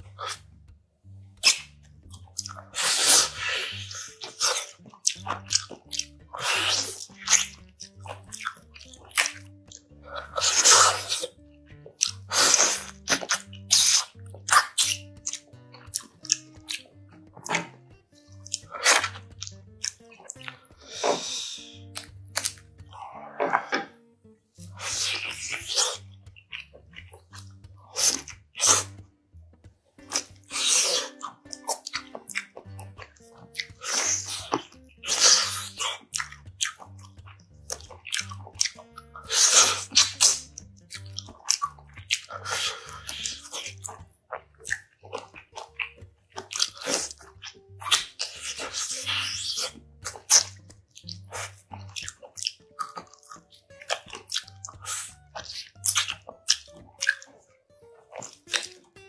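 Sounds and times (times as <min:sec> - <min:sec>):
chewing and biting meat: 0:00.0 - 0:00.5, 0:01.3 - 0:24.0, 0:24.6 - 0:29.1, 0:30.0 - 0:59.0
soft background music: 0:00.0 - 0:59.0.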